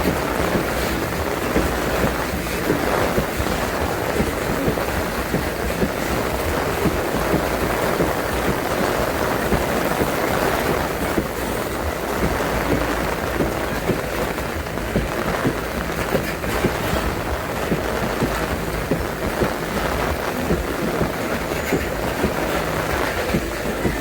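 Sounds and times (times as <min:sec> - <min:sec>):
heavy rain crackling: 0:00.0 - 0:24.0
steady low rumble: 0:00.0 - 0:24.0
storm wind buffeting microphone: 0:00.0 - 0:24.0.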